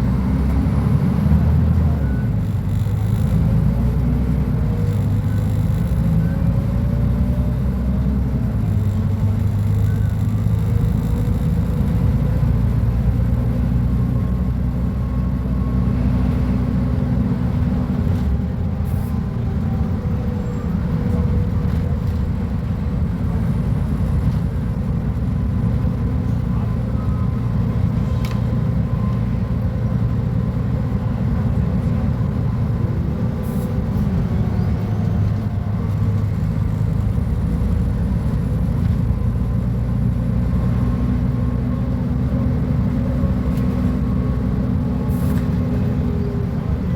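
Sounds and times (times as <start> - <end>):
bus diesel engine droning: 0.0 - 46.9.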